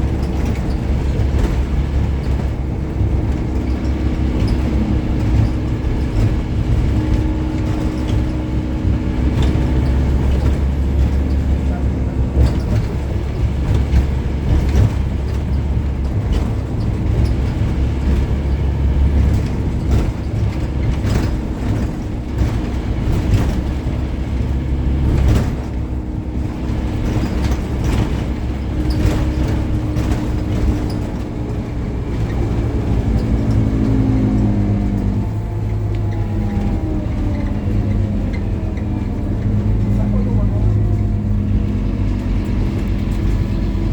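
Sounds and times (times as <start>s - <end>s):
bodywork rattling and knocking: 0.0s - 43.9s
bus diesel engine running: 0.0s - 43.9s.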